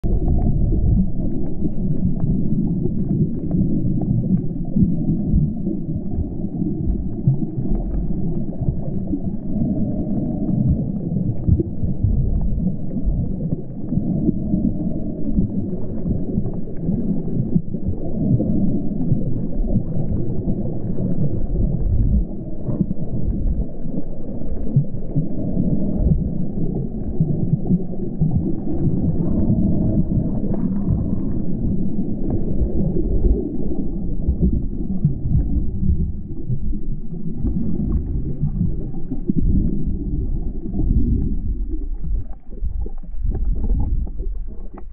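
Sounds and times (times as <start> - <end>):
underwater rumble of moving water: 0.0 - 44.9.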